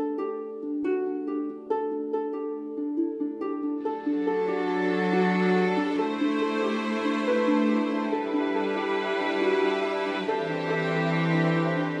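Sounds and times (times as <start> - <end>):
plucked-string melody: 0.0 - 12.0.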